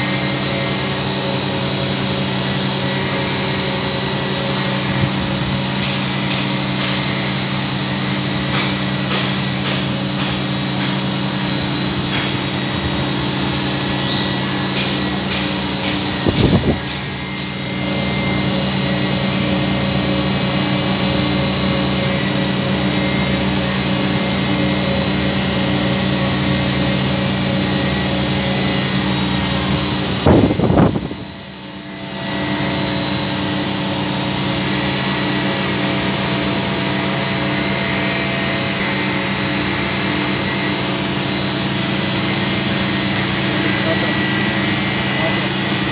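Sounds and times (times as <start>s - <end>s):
high machine whine: 0.0s - 45.9s
machining centre humming: 0.0s - 45.9s.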